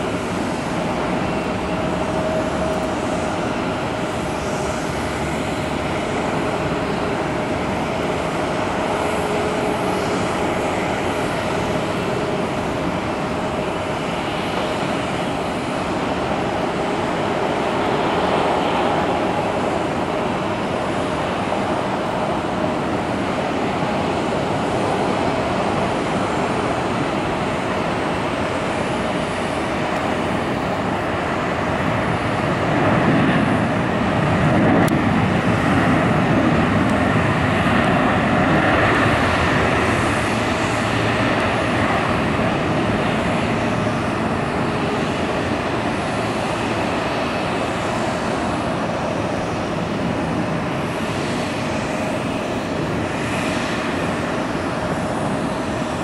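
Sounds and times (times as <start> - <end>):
jet engine roar: 0.0 - 56.0.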